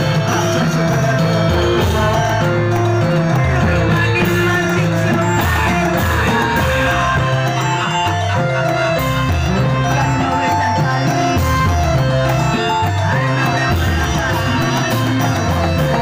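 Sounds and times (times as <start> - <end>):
loud live show music: 0.0 - 16.0.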